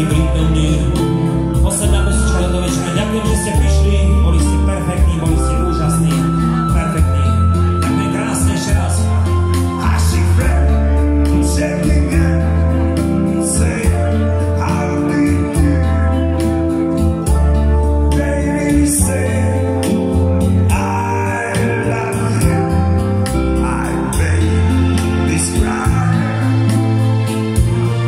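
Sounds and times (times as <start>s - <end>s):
electronic keyboard: 0.0s - 28.0s
man singing into a microphone: 0.0s - 28.0s.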